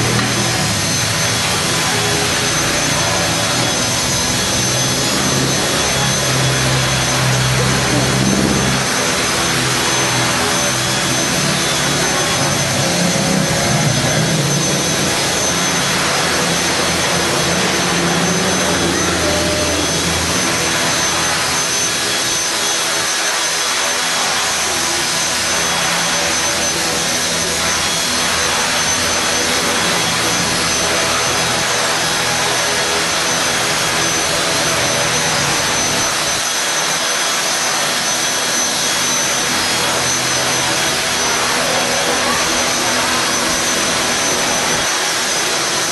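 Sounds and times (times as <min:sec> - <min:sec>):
rc helicopter whirring whine: 0:00.0 - 0:45.9.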